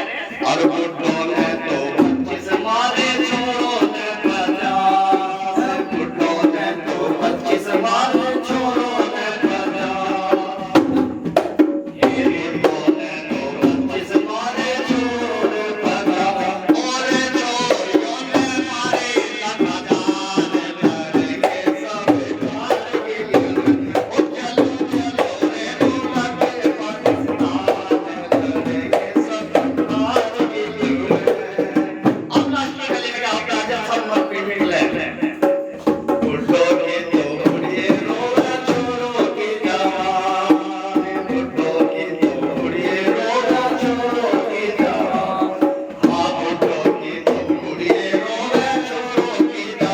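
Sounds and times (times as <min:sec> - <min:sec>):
drum and hand percussion beat: 0:00.0 - 0:49.9.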